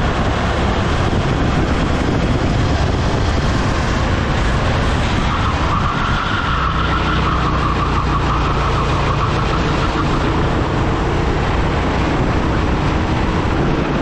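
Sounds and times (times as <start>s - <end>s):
kart engine running: 0.0s - 14.0s
wind rushing over microphone: 0.0s - 14.0s.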